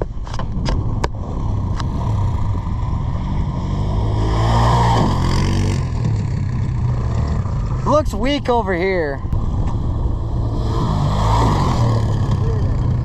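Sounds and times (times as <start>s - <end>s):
off-road engine revving: 1.2s - 13.0s.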